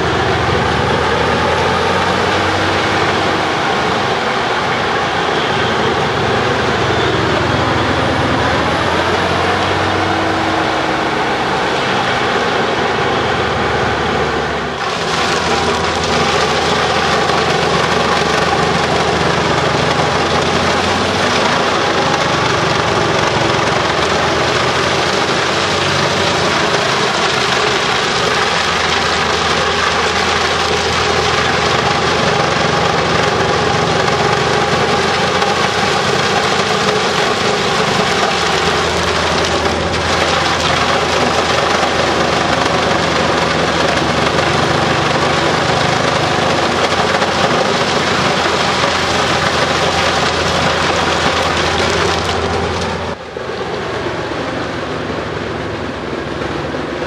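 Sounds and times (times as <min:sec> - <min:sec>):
wood chipper running: 0:00.0 - 0:57.0.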